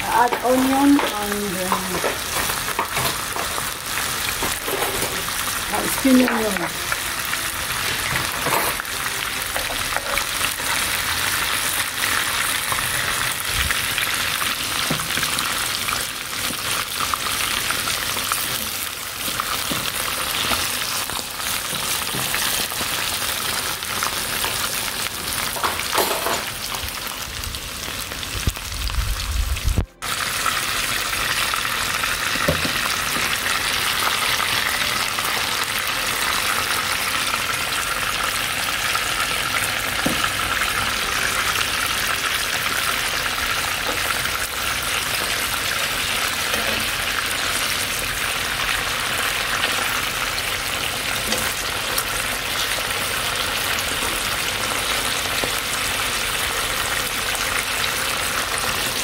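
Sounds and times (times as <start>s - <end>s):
onion sizzling in hot oil: 0.0s - 59.0s.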